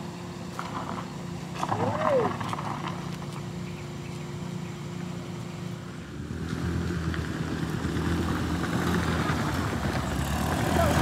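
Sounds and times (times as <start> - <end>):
motorcycle engine: 0.0 - 11.0
vehicle engines climbing hill: 0.0 - 11.0.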